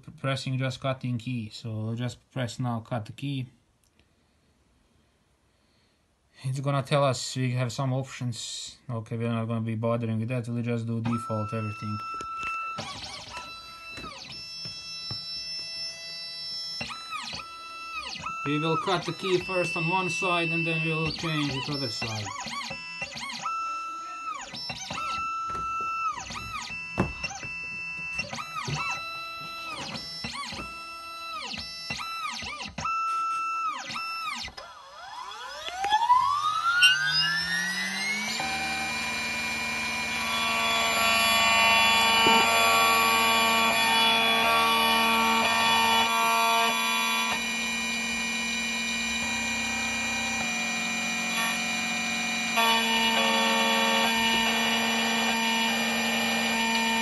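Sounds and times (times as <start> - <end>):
cutter spindle high whine: 10.9 - 57.0
machine motors whining in steps: 11.0 - 57.0.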